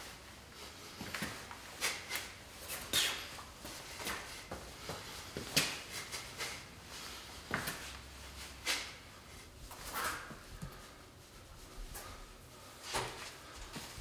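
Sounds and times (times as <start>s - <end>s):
man shadowboxing: 0.0s - 14.0s.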